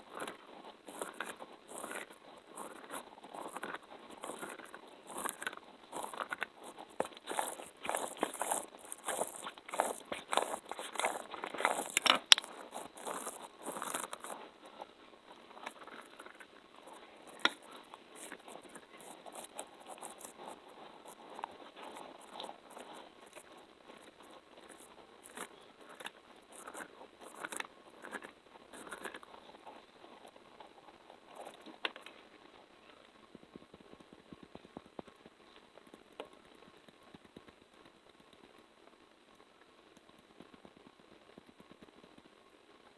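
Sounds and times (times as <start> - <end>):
sticky clicks and crackles: 0.0 - 38.6.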